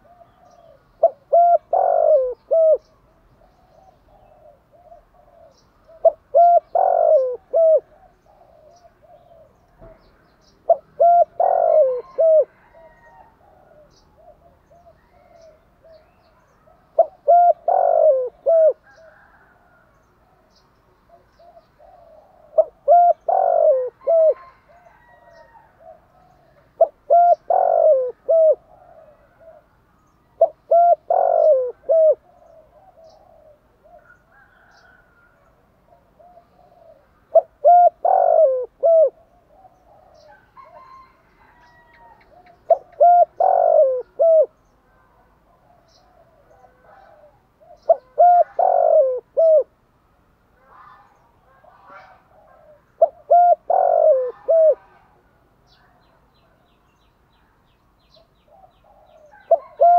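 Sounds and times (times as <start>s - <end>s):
dove cooing: 0.0s - 49.8s, 50.8s - 55.2s, 58.1s - 59.9s.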